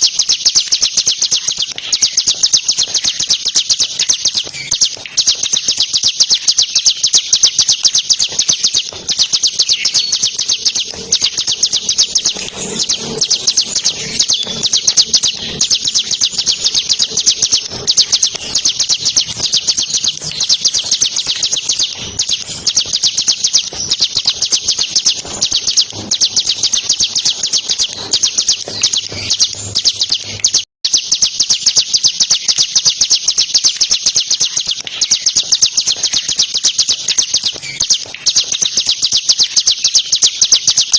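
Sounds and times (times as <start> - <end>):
bird singing fast chirping notes: 0.0 - 40.9.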